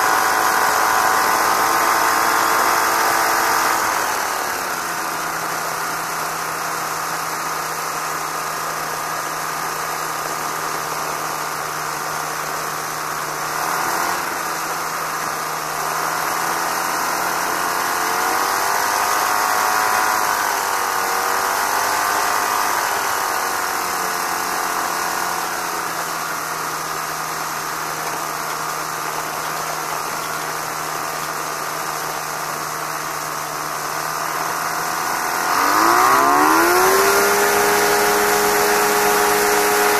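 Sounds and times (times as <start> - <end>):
engine and propeller idling: 0.0 - 39.9.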